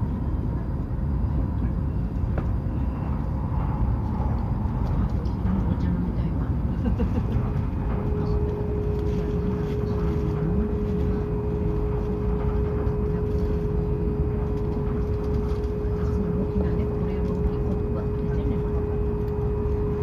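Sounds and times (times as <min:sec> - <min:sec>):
constant high hum: 0:00.0 - 0:20.0
train interior rumble: 0:00.0 - 0:20.0.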